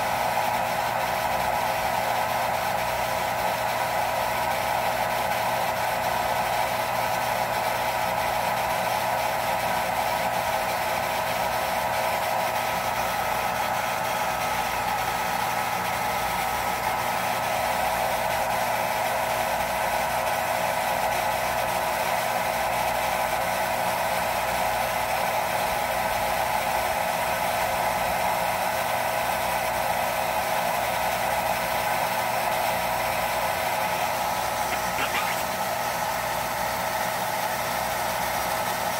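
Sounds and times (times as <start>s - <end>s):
pump motor humming: 0.0s - 38.9s.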